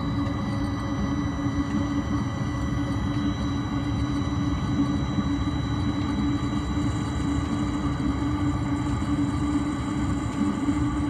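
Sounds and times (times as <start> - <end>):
diesel heater running hum: 0.0 - 11.0.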